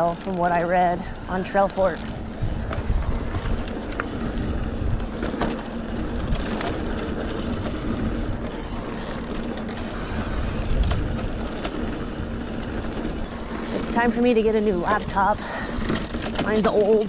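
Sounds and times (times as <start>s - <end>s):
bike tyres rumbling over dirt: 0.0s - 17.0s
wind on microphone: 1.0s - 17.0s.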